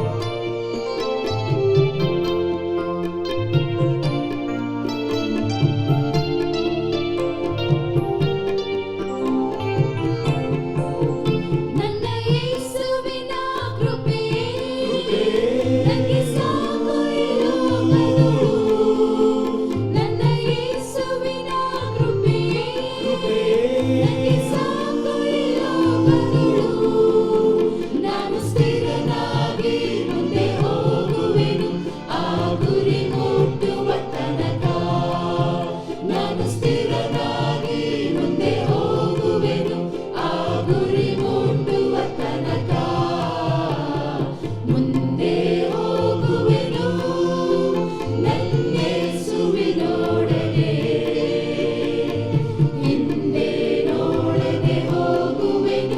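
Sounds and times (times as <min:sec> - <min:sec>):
choir singing a hymn: 0:00.0 - 0:55.9
instrumental accompaniment: 0:00.0 - 0:55.9.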